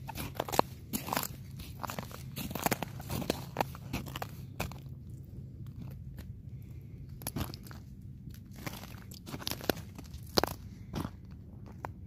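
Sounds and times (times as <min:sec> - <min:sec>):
footsteps crunching on snowy ice: 0:00.0 - 0:05.0, 0:07.2 - 0:12.0
low steady rumble: 0:00.0 - 0:12.0.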